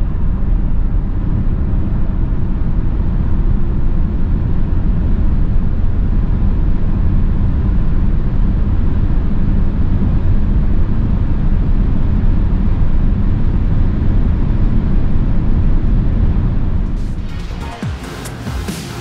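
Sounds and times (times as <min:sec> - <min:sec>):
wind and tyre noise in car: 0:00.0 - 0:17.0.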